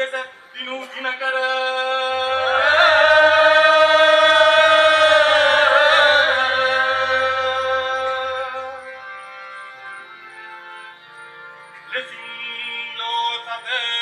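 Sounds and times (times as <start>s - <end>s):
man chanting: 0.0s - 9.2s, 11.9s - 14.0s
steady sustained tone: 0.0s - 14.0s.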